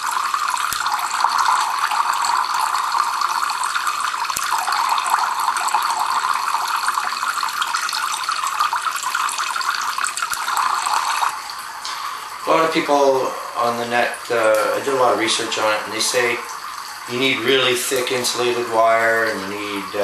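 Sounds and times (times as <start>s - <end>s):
water streaming into metal cans: 0.0s - 20.0s.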